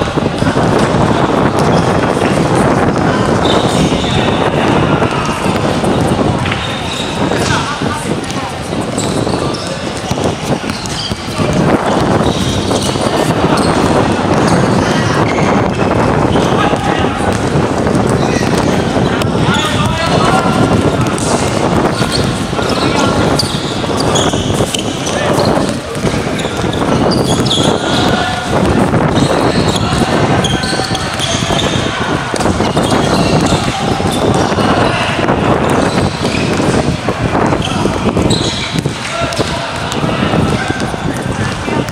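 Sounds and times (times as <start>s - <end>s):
basketballs bouncing on hard court: 0.0s - 41.9s
players' voices: 0.0s - 41.9s
shoe squeaks: 0.0s - 41.9s.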